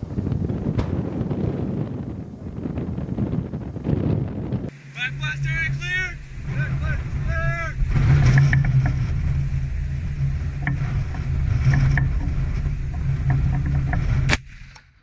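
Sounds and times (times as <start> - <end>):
low mechanical hum: 0.0 - 14.7.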